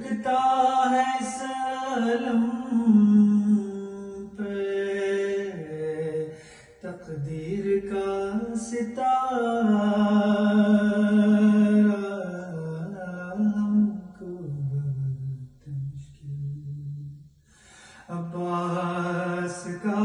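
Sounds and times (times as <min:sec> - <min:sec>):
man chanting a lament: 0:00.0 - 0:17.1, 0:18.0 - 0:20.0.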